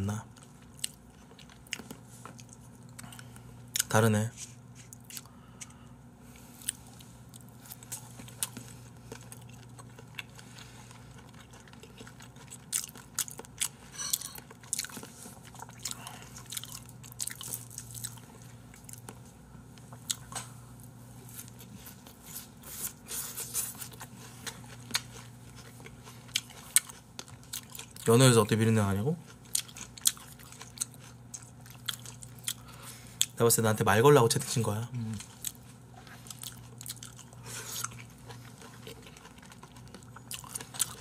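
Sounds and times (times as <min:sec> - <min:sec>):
chewing and biting: 0:00.3 - 0:03.9, 0:06.6 - 0:20.5, 0:21.3 - 0:28.1, 0:29.3 - 0:33.4, 0:35.2 - 0:41.0.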